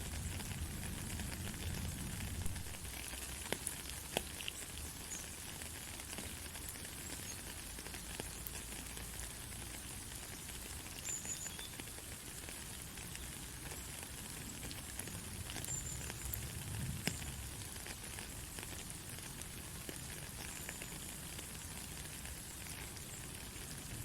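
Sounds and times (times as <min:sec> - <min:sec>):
raindrops ticking close by: 0:00.0 - 0:24.0
steady rain: 0:00.0 - 0:24.0.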